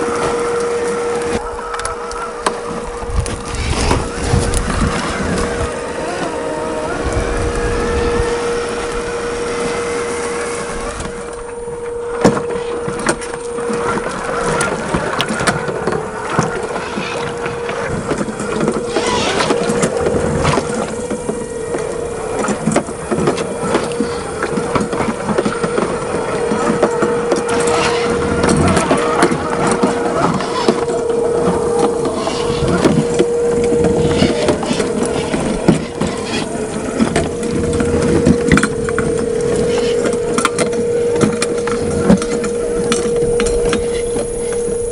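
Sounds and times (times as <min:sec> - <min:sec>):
dense crackle of small clicks: 0:00.0 - 0:44.9
electric motor whining: 0:00.0 - 0:44.9.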